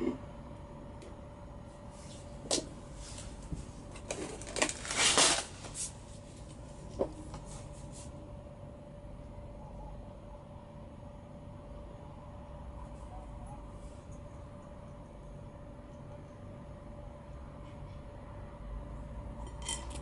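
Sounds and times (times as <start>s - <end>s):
steady faint hum: 0.0s - 20.0s.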